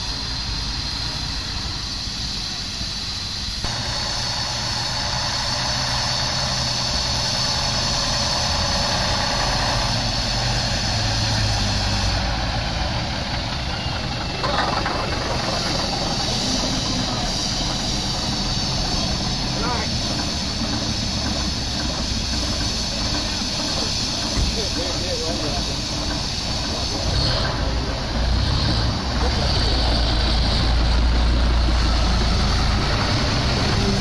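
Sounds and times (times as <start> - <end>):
low vehicle engine drone: 0.0 - 34.0.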